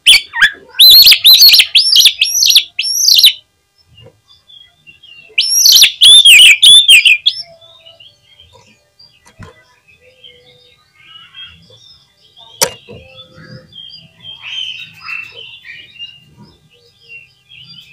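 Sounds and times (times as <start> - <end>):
bird singing whistled notes: 0.1 - 17.9.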